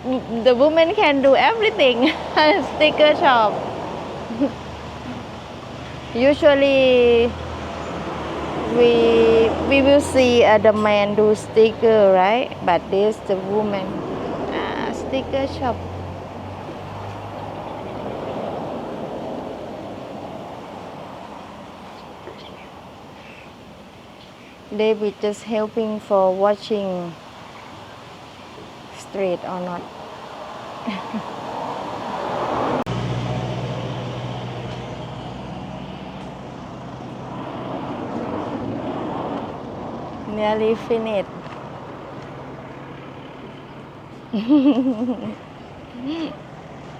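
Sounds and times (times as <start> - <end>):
vehicle passing on road: 0.0 - 46.9.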